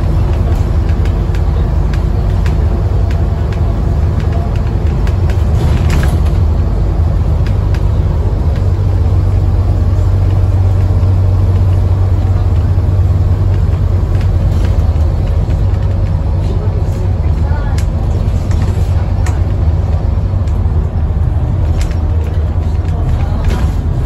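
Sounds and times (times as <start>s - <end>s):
bus engine and road drone: 0.0s - 24.0s.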